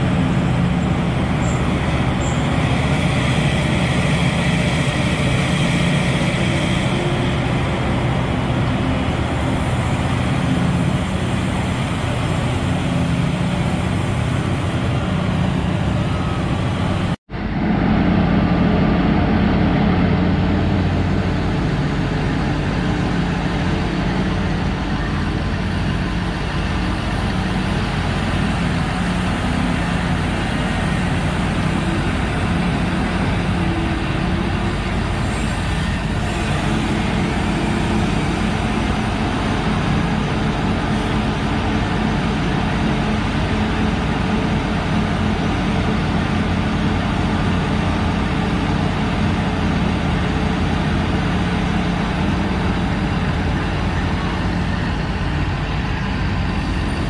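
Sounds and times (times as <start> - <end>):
heavy diesel engines droning: 0.0 - 57.0.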